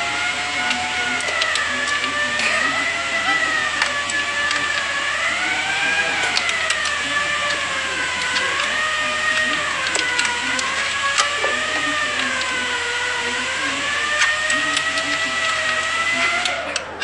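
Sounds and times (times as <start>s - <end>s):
small motor whining: 0.0s - 17.0s.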